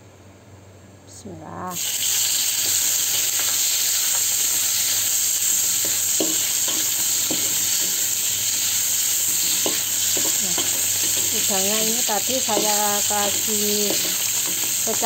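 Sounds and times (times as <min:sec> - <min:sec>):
shrimp sizzling in oil: 0:01.7 - 0:15.0
metal spatula scraping wok: 0:02.6 - 0:15.0.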